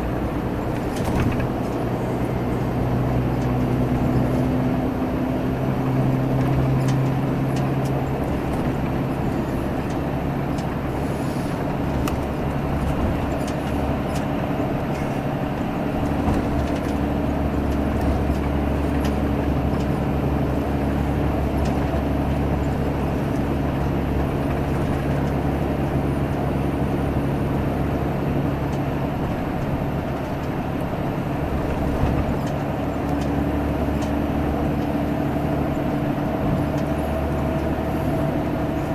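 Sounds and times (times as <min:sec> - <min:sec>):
bus diesel engine drone: 0:00.0 - 0:38.9
road noise: 0:00.0 - 0:38.9.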